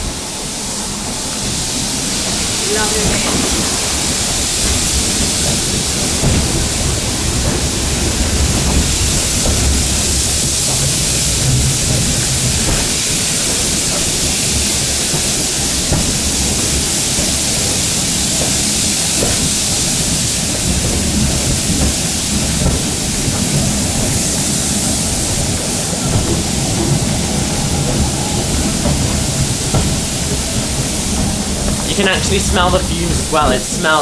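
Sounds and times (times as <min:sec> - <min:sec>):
steam train hissing: 0:00.0 - 0:34.0
train wheels rumbling on rails: 0:00.0 - 0:34.0.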